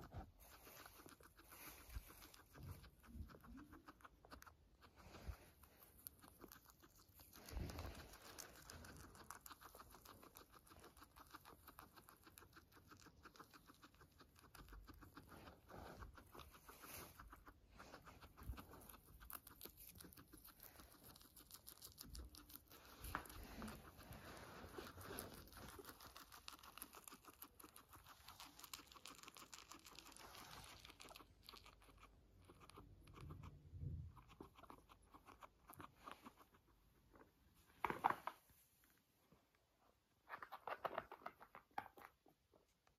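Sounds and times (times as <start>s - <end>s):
guinea pig chewing leaves: 0.0s - 38.4s, 40.2s - 42.9s.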